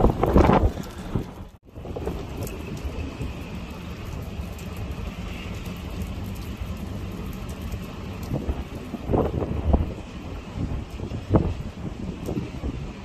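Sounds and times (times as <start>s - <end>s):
heavy rain hiss: 0.0s - 13.0s
wind noise on microphone: 0.0s - 13.0s.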